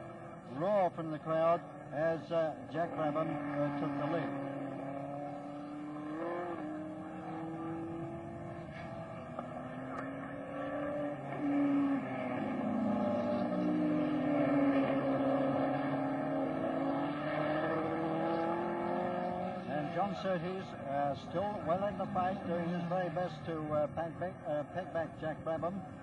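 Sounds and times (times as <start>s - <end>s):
racing car engines at speed: 0.0s - 26.0s.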